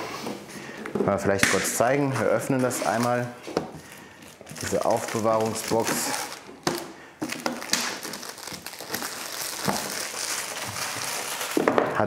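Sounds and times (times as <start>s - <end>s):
plastic wrapping crinkling: 1.8s - 12.0s.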